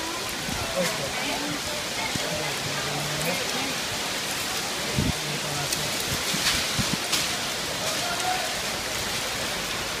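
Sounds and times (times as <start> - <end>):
hail and rain hissing on awnings: 0.0 - 10.0
hailstones ticking: 0.0 - 10.0.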